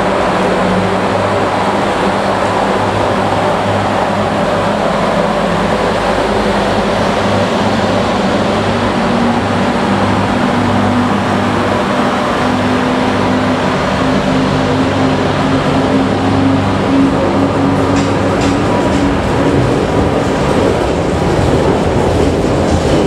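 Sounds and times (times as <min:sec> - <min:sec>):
electric locomotive hum: 0:00.0 - 0:23.0.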